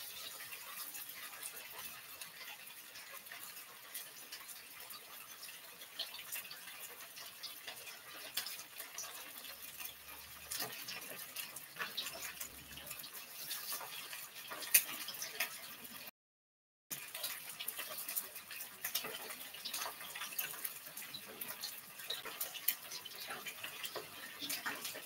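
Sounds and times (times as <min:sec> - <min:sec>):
oil sizzling and popping in wok: 0:00.0 - 0:16.1, 0:16.9 - 0:25.0.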